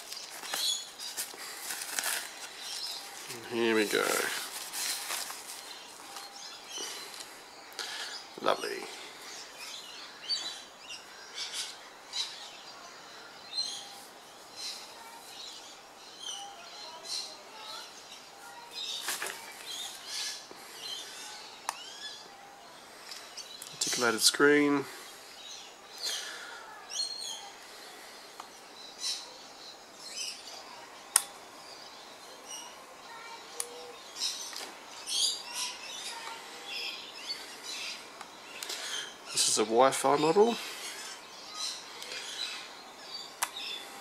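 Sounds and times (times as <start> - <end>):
birds chirping: 0.0 - 44.0
faint outdoor background noise: 0.0 - 44.0.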